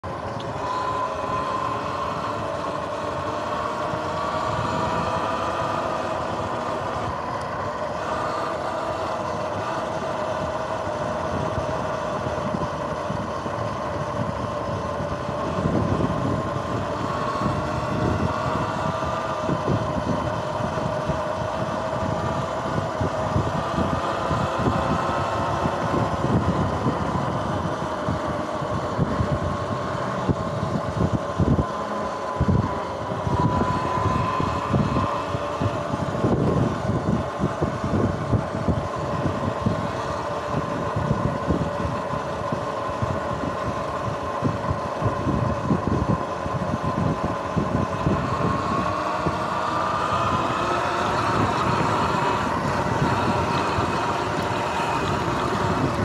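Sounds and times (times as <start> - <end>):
electric motor whine: 0.0 - 56.0
road and wind noise: 0.0 - 56.0
wind buffeting microphone: 0.0 - 56.0.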